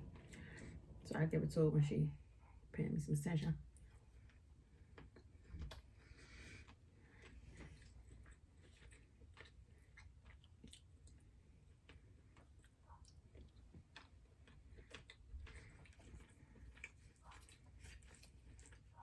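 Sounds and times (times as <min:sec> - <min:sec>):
quiet chewing: 0:00.0 - 0:01.1, 0:03.7 - 0:19.0.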